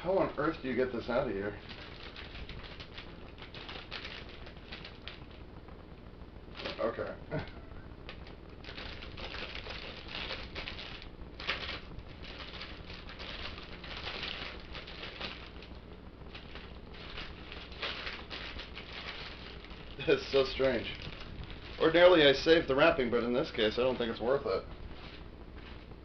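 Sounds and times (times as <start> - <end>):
plastic bag crinkling: 0.1 - 5.4, 6.5 - 26.0.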